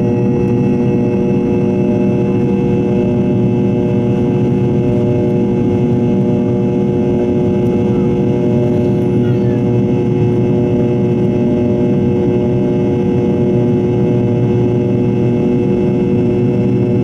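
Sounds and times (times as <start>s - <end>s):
jet engine drone in flight: 0.0s - 17.0s.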